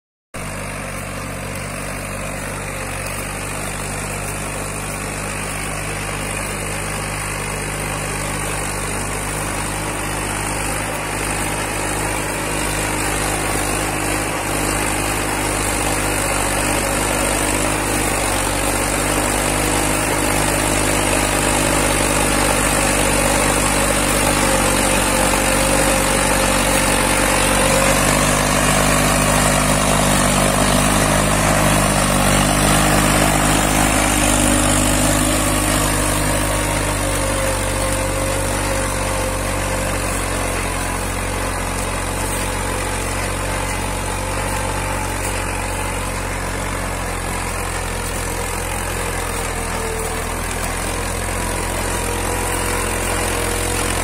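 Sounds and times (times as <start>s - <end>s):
tractor diesel engine under load: 0.4s - 54.0s.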